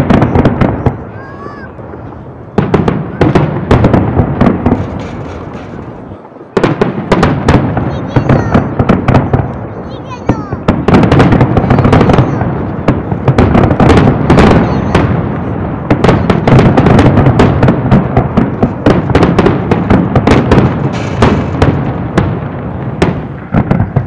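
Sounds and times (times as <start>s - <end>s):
continuous rumble: 0.0s - 24.0s
fireworks bangs: 0.0s - 24.0s.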